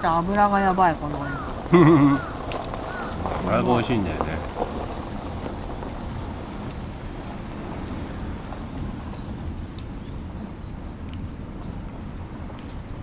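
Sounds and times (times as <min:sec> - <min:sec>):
low outdoor rushing noise: 0:00.0 - 0:12.2.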